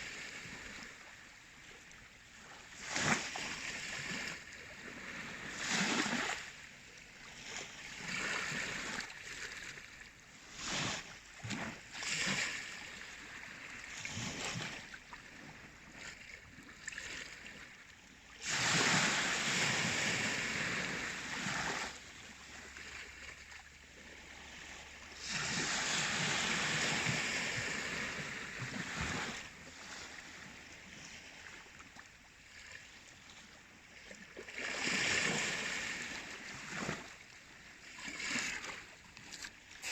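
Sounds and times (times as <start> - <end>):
sea waves washing in and out: 2.0 - 31.9, 34.6 - 39.9.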